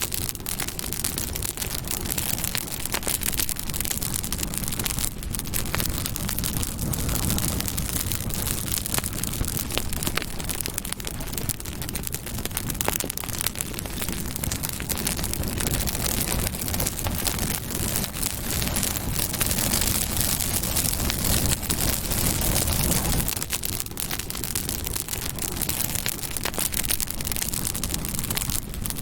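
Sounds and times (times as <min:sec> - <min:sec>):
burning wood crackling: 0:00.0 - 0:29.0
hiss of flames: 0:00.0 - 0:29.0.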